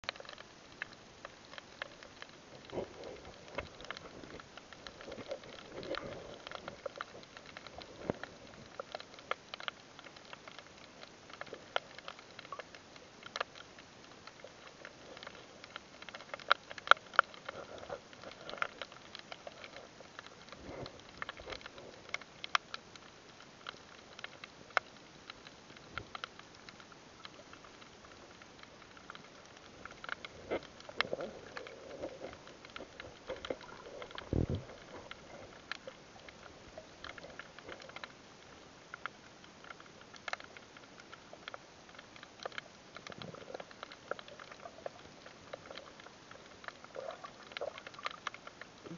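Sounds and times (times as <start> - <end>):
faint steady hiss: 0.0 - 48.9
underwater crackling clicks and pops: 0.0 - 48.9.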